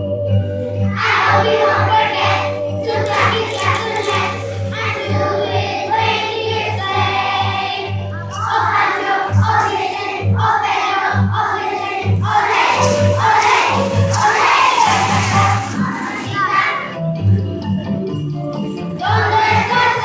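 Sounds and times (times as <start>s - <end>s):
children singing together: 0.9s - 17.0s, 19.0s - 20.0s.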